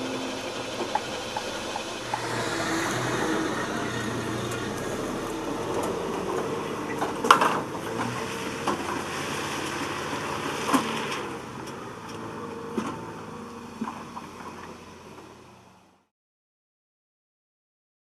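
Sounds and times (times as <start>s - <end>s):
diesel tractor engine running: 0.0s - 16.1s.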